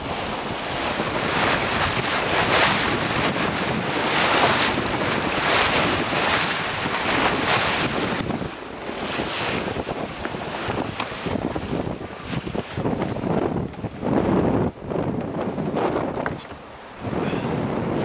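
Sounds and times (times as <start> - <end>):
water splashing along hull: 0.0 - 18.0
wind buffeting microphone: 0.0 - 18.0.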